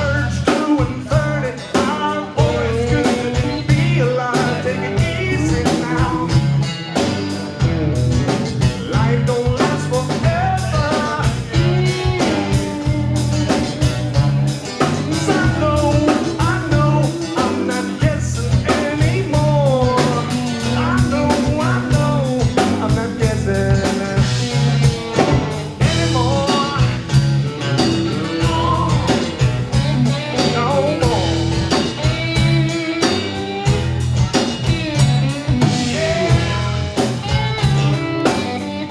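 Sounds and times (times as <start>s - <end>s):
drum kit beat: 0.0s - 38.9s
electric guitar: 0.0s - 38.9s
live blues-rock band: 0.0s - 38.9s.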